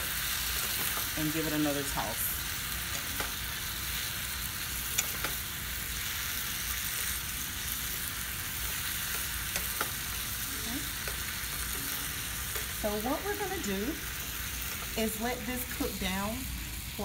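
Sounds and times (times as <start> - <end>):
carrots sizzling in a skillet: 0.0 - 17.0.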